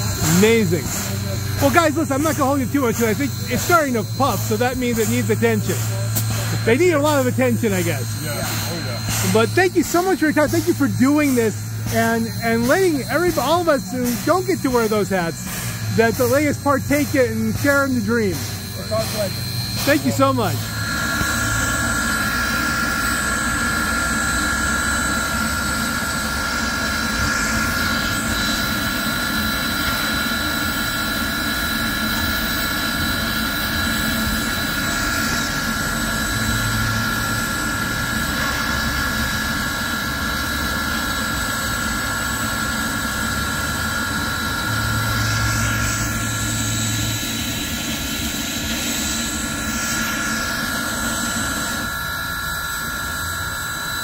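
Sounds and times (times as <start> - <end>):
steam locomotive hissing: 0.0 - 53.0
high steady whine: 0.0 - 54.0.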